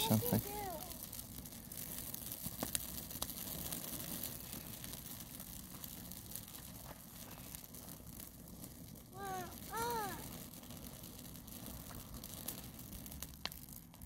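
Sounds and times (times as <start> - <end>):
small fire crackling: 0.0 - 14.0.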